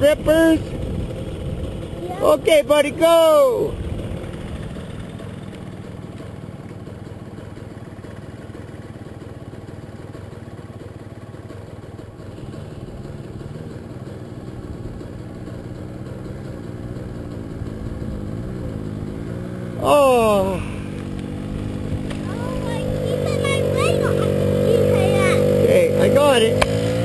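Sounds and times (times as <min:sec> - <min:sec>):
small two-stroke engine revving: 0:00.0 - 0:27.0.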